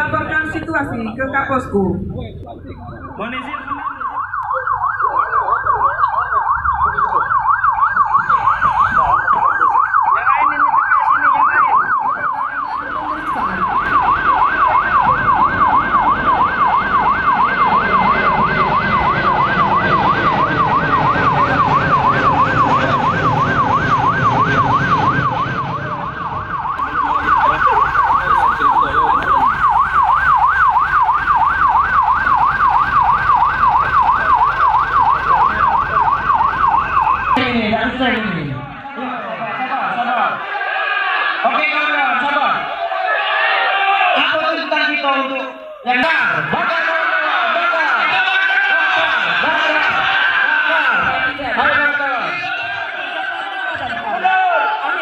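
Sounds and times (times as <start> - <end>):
ambulance siren yelping: 0.0 - 55.0.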